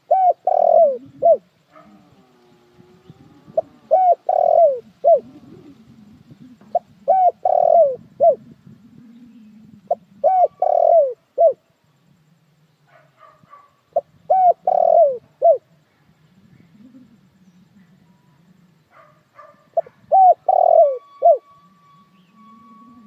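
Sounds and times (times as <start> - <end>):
dove cooing: 0.0 - 15.8, 16.4 - 23.0.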